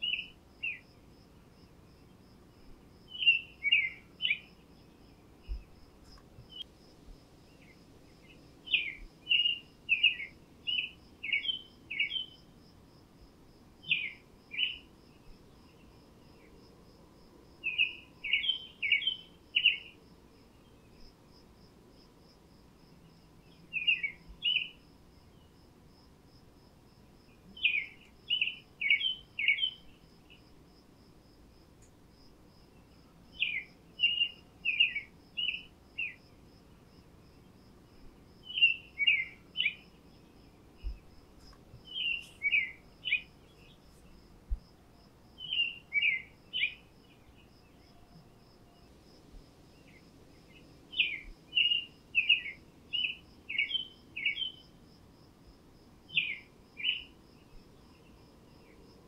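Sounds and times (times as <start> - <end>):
songbird singing: 0.0 - 54.9, 56.0 - 59.0
insect chirping: 0.0 - 59.0.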